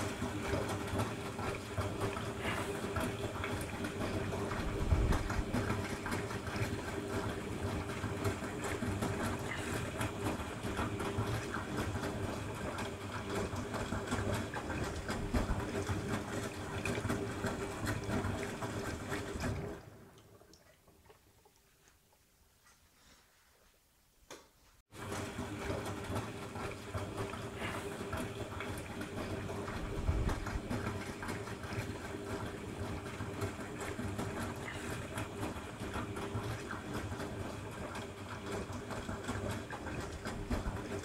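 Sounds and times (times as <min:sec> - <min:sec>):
washing machine drum tumbling: 0:00.0 - 0:19.8, 0:25.0 - 0:41.0.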